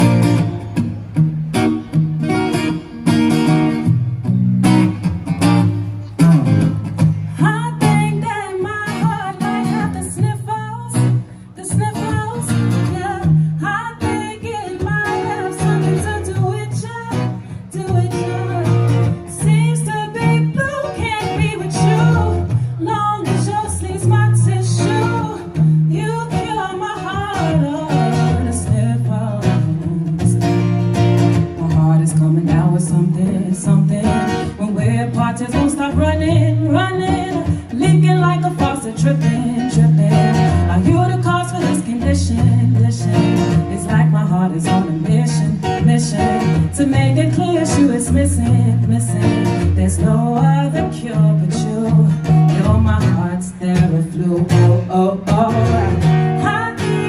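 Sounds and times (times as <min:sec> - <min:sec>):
guitar: 0:00.0 - 0:57.0.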